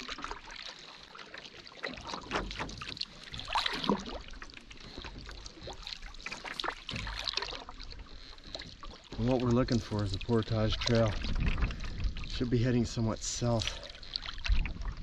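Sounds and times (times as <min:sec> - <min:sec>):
paddle pulling through water: 0:00.0 - 0:15.0
water dripping off paddle: 0:00.0 - 0:15.0.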